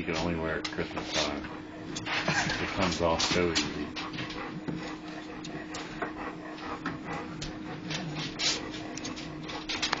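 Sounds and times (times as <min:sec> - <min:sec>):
dog chewing and gnawing: 0:00.0 - 0:10.0.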